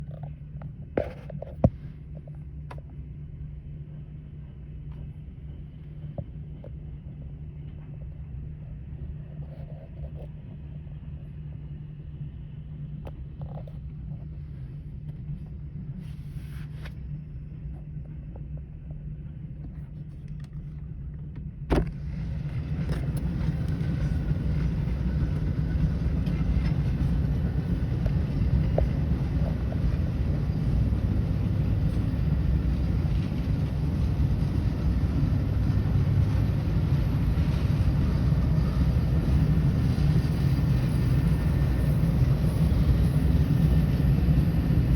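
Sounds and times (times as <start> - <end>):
train rumbling: 0.0 - 44.9.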